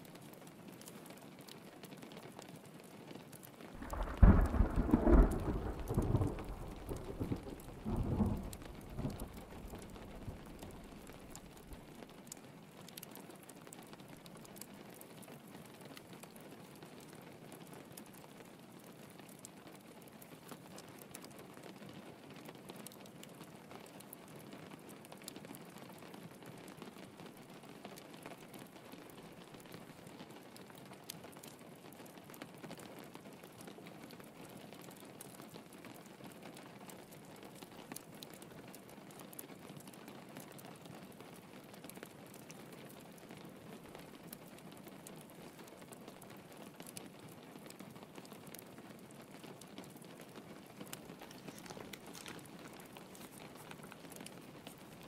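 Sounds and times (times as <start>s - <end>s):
rain pattering on window: 0.0s - 55.0s
wood fire crackling: 0.1s - 55.0s.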